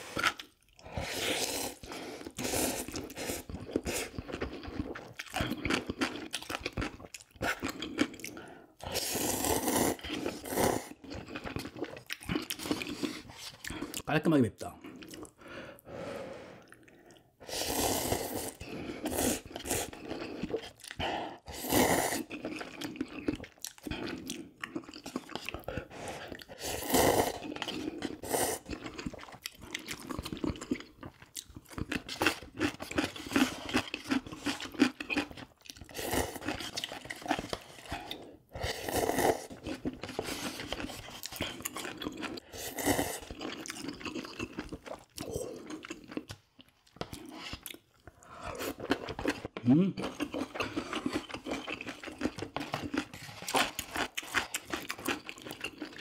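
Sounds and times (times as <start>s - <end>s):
chewing noodles: 0.0s - 14.1s, 14.8s - 15.8s, 16.5s - 56.0s
slurping noodles: 0.0s - 14.1s, 14.9s - 46.3s, 47.1s - 56.0s.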